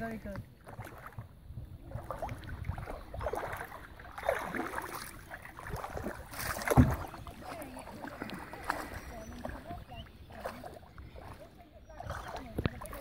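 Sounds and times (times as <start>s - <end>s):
dog wading through water: 0.0s - 13.0s
paddle splashing water: 0.0s - 13.0s.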